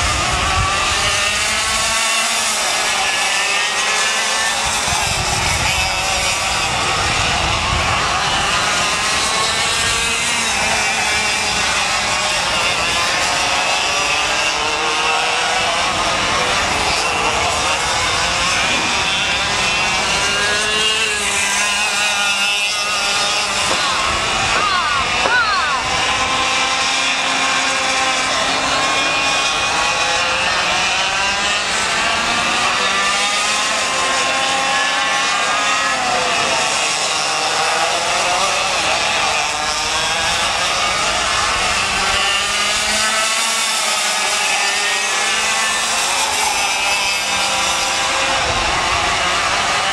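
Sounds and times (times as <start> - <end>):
kart engines at high revs: 0.0 - 49.9.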